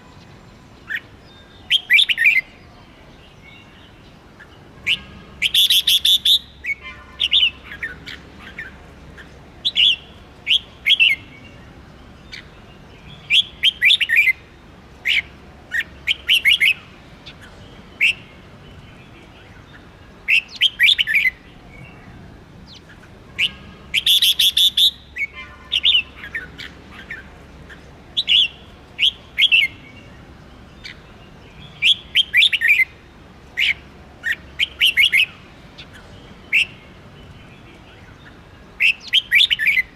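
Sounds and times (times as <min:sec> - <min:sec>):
bird singing whistled notes: 0:00.0 - 0:08.8, 0:09.6 - 0:14.5, 0:15.1 - 0:27.3, 0:28.2 - 0:33.0, 0:33.6 - 0:39.9.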